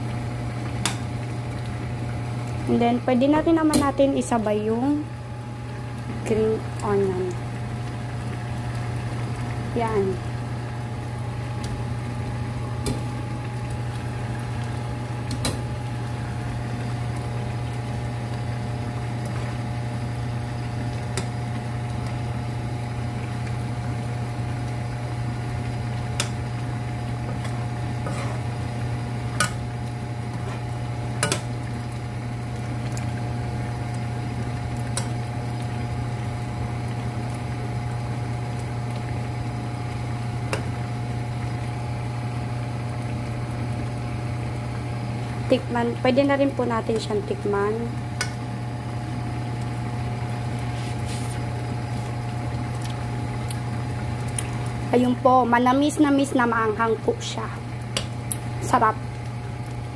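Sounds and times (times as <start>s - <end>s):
sauce simmering in a pan: 5.4s - 59.9s.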